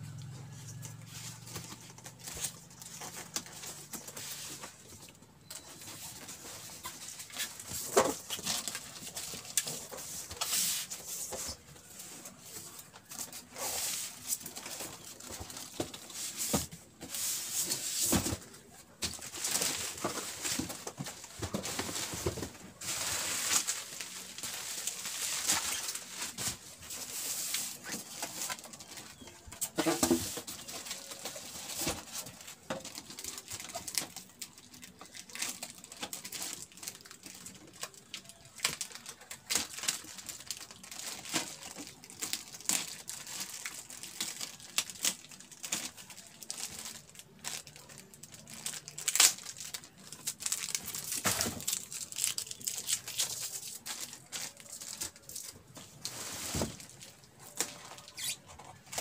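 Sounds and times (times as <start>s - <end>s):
plastic wrap crinkling: 0.1s - 59.0s.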